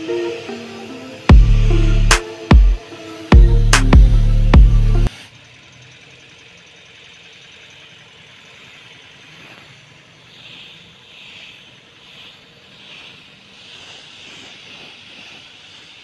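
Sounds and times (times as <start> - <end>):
spray gun hissing: 0.0 - 6.2, 6.9 - 16.0.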